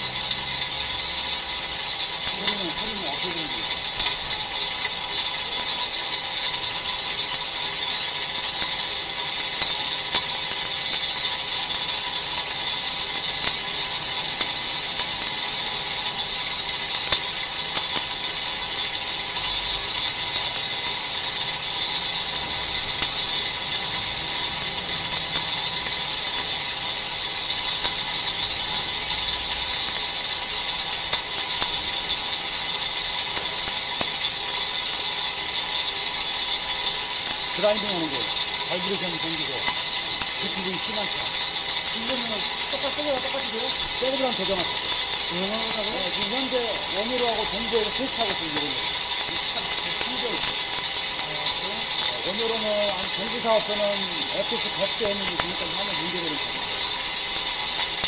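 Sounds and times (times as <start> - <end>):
lathe scraping spinning brake disc: 0.0 - 58.0.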